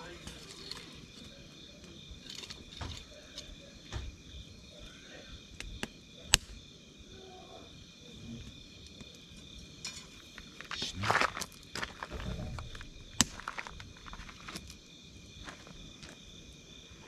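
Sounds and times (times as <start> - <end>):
campfire crackling: 0.0 - 17.0
night insects chirping: 0.0 - 17.0.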